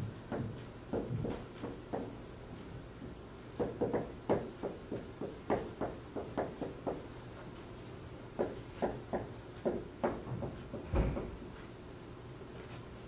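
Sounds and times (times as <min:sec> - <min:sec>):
marker writing on whiteboard: 0:00.0 - 0:02.6, 0:03.6 - 0:13.0.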